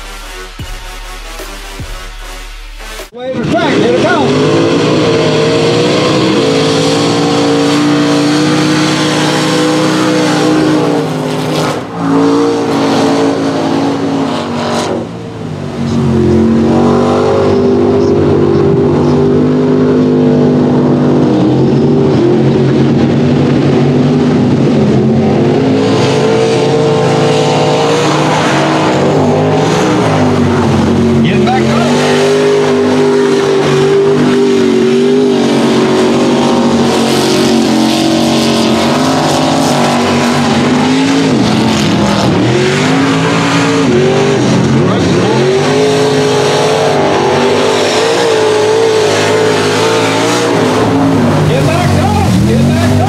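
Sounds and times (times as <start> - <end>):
truck engines revving high: 0.0 - 53.0.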